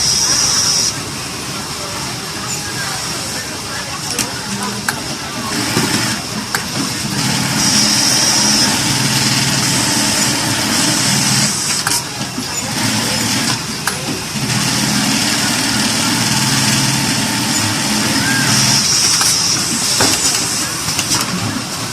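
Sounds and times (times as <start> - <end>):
high mechanical hiss: 0.0 - 21.9
sewing machine humming: 0.0 - 21.9.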